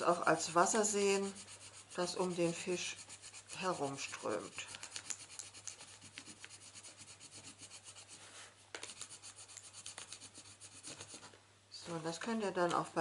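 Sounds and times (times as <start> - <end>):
pencil scratching on paper: 0.0 - 11.4.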